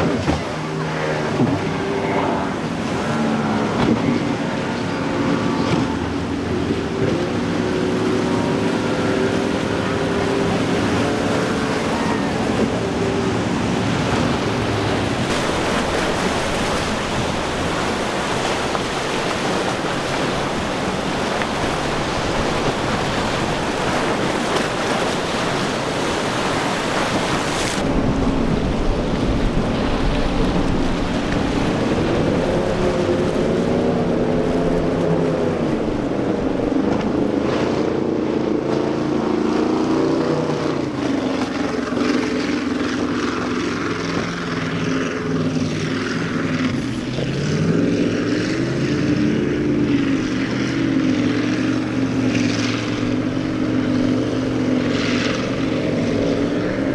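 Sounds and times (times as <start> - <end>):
motorboat engines droning: 0.0 - 56.9
rushing water: 0.0 - 56.9
waves breaking: 0.0 - 56.9
wind on microphone: 0.0 - 56.9.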